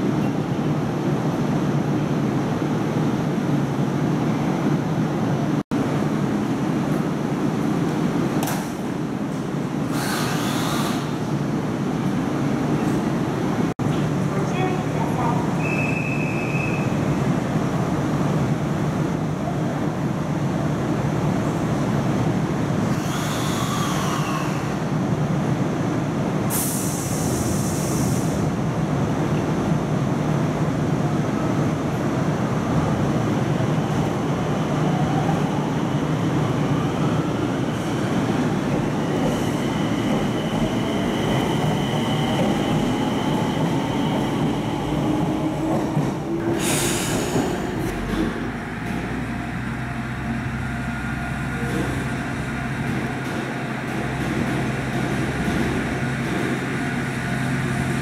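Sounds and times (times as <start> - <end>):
rising train whine: 0.0 - 58.0
train rolling on rails: 0.0 - 58.0.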